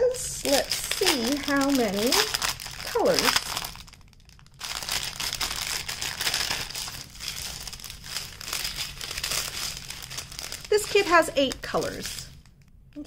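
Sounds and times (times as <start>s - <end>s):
plastic bags crinkling: 0.1s - 12.7s.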